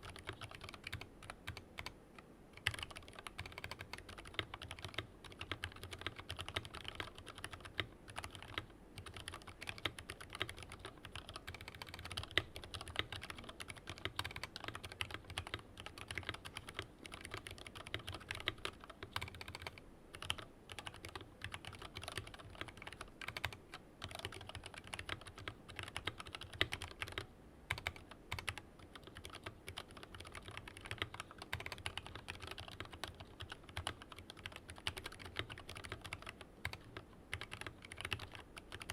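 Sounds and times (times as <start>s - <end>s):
mechanical keyboard typing: 0.0s - 1.9s, 2.6s - 38.9s.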